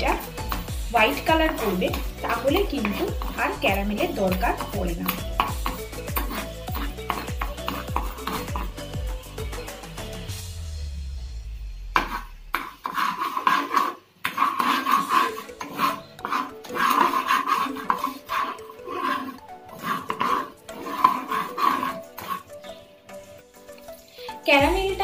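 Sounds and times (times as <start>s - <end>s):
spatula scraping a pan: 0.0s - 9.1s, 12.0s - 24.4s
background music: 0.0s - 12.5s, 14.6s - 25.0s.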